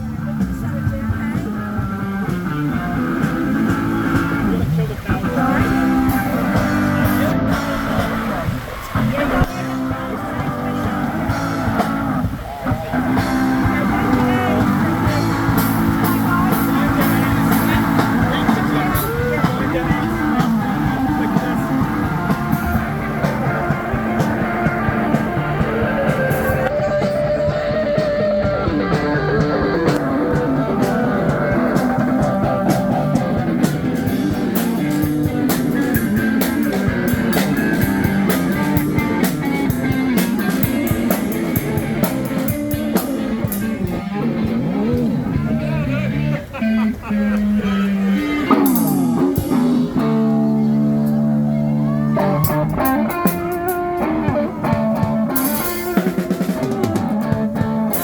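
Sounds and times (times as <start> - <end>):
drums: 0.0 - 58.0
electric guitar: 0.0 - 58.0
live rock band playing: 0.0 - 58.0.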